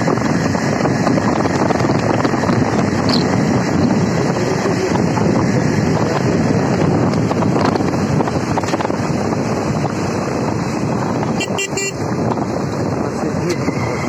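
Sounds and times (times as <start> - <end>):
motorcycle running: 0.0 - 14.0
wind buffeting microphone: 0.0 - 14.0.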